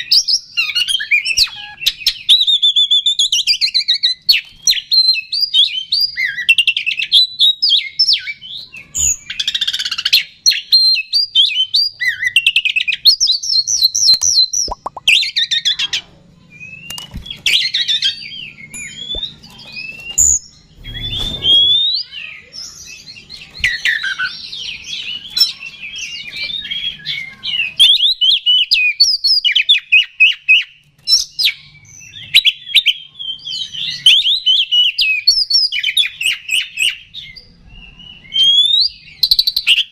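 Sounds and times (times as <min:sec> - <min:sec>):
bird singing whistled song: 0:00.0 - 0:15.9, 0:16.5 - 0:39.9.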